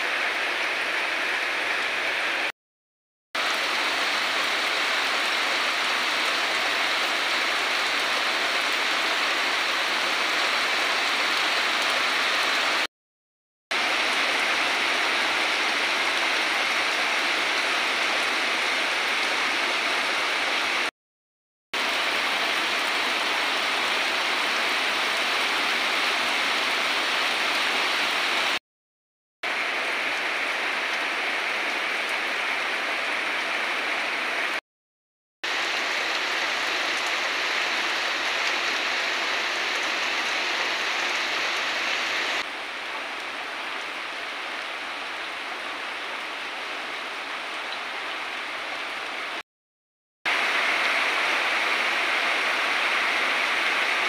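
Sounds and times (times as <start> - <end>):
heavy rain on leaves: 0.0 - 2.5, 3.4 - 12.9, 13.7 - 20.9, 21.8 - 28.6, 29.4 - 34.6, 35.4 - 49.4, 50.3 - 54.0.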